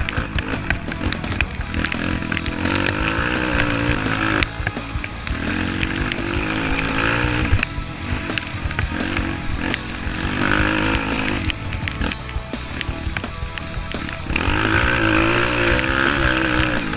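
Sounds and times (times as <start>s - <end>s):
small motorbike engines revving: 0.0s - 16.9s.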